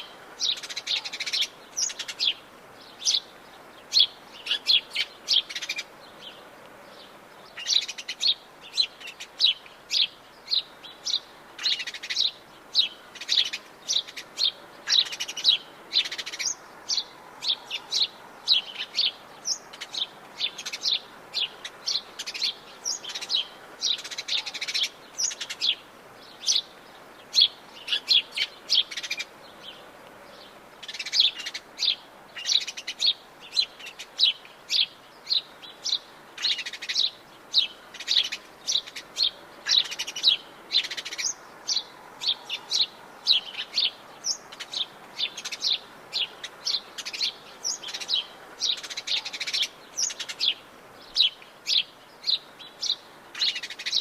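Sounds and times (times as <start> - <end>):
faint background hiss: 0.0 - 54.0
forest birds chirping: 0.0 - 54.0.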